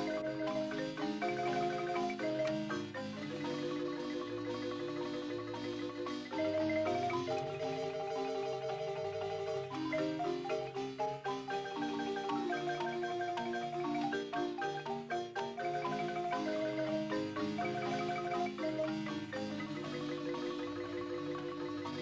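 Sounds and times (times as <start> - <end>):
marimba music: 0.0 - 22.0.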